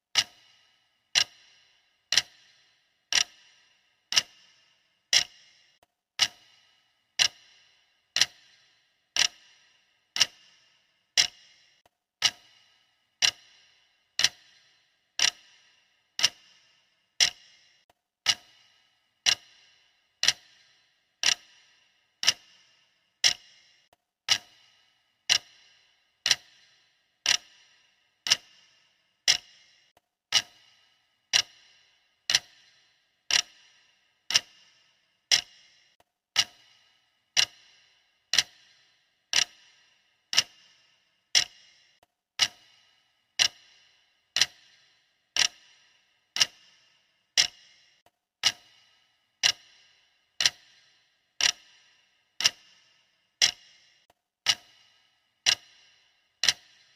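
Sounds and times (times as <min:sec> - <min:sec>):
clock ticking: 0:00.1 - 0:56.9.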